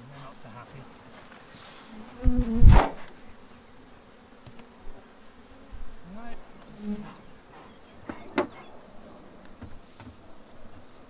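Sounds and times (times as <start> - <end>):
honeybees buzzing: 0.0 - 11.0
bee buzzing past close: 0.1 - 11.0.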